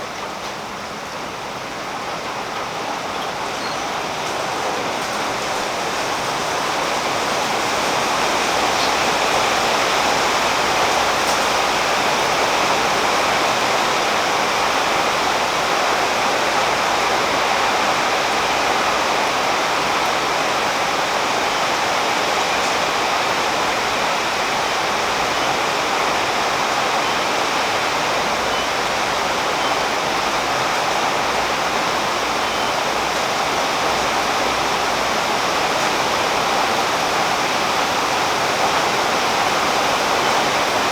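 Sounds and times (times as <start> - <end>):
heavy rain on leaves: 0.0 - 40.9.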